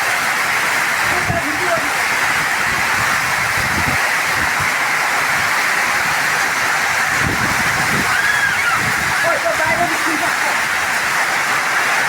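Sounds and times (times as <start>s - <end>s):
heavy rain pouring: 0.0s - 12.0s
wind rumbling on microphone: 1.0s - 11.4s.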